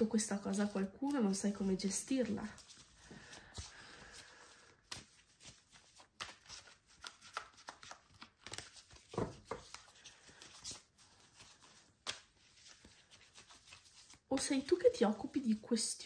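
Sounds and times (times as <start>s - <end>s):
cards being shuffled: 0.6s - 15.2s.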